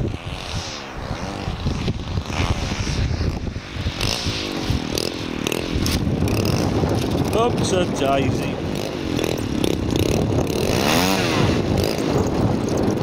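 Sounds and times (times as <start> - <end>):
model plane engine: 0.0 - 13.0
wind buffeting microphone: 0.0 - 13.0.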